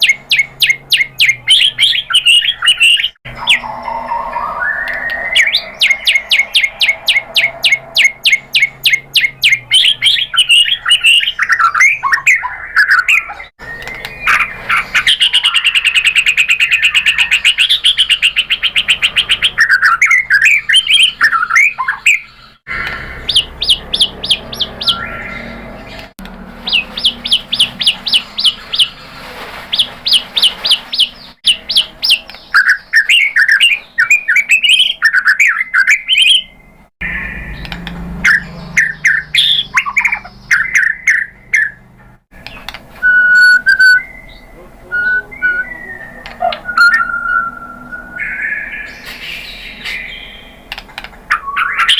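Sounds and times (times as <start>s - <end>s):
bird singing: 0.0s - 51.9s.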